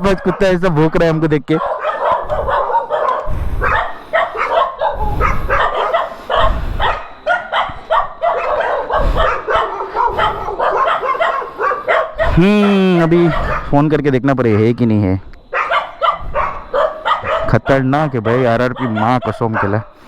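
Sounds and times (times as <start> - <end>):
dogs barking and yipping: 0.0 - 20.0.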